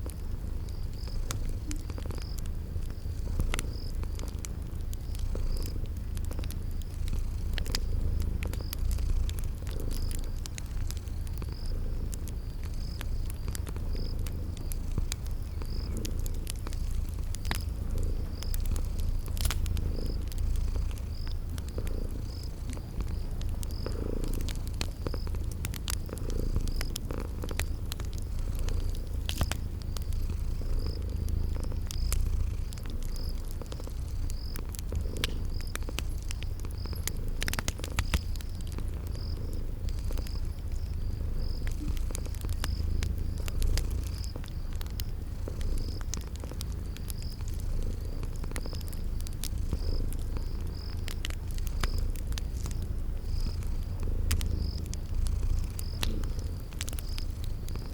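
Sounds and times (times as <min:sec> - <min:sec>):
cat purring: 0:00.0 - 0:57.9
cricket chirping: 0:00.0 - 0:57.9
wood fire crackling and popping: 0:00.0 - 0:57.9.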